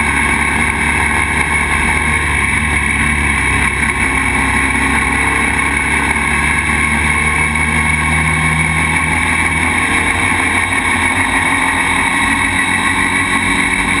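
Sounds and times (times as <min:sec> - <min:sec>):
motorcycle engine cruising: 0:00.0 - 0:14.0
road noise: 0:00.0 - 0:14.0.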